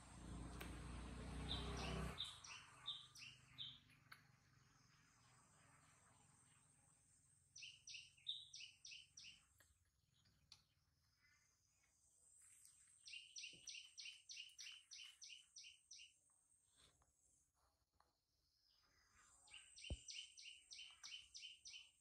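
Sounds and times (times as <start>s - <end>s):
bird chirping: 0.2s - 6.3s, 7.5s - 16.2s, 18.7s - 22.0s.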